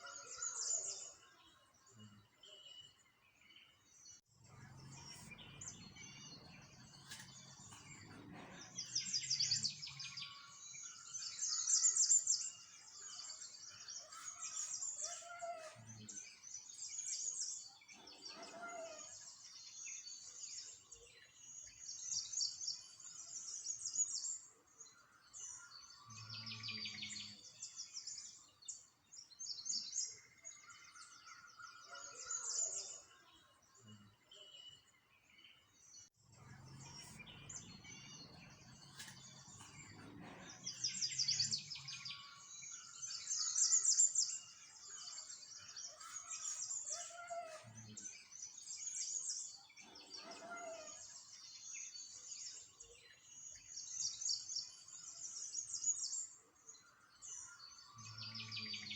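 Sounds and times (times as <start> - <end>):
songbirds chirping in trills: 0.0 - 58.9.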